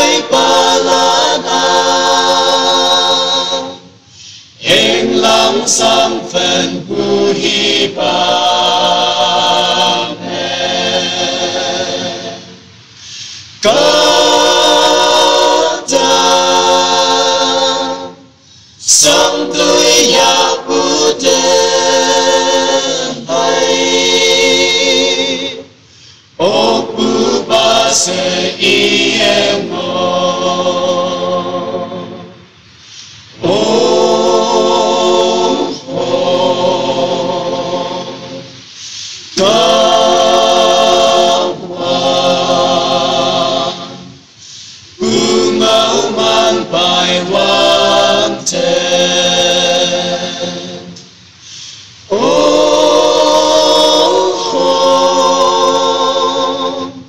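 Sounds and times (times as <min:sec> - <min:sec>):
group singing unaccompanied folk song: 0:00.0 - 0:57.0.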